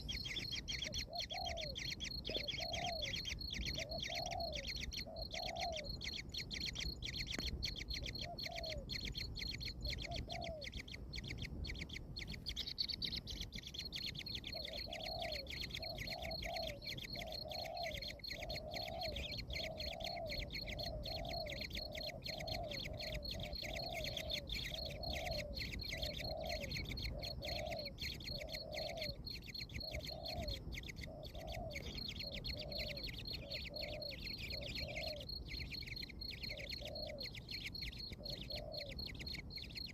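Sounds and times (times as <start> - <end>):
high fast-pulsing bird trill: 0.0 - 39.9.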